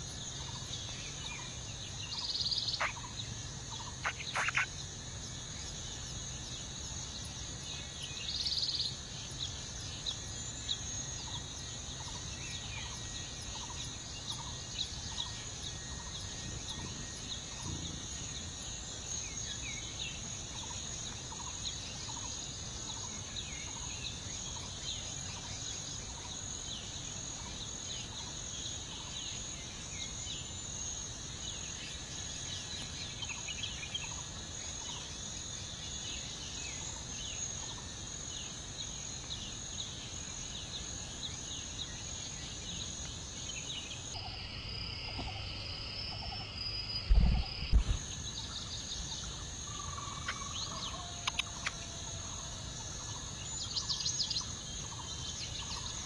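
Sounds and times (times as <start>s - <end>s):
chorus of high-pitched chirps: 0.0s - 56.0s.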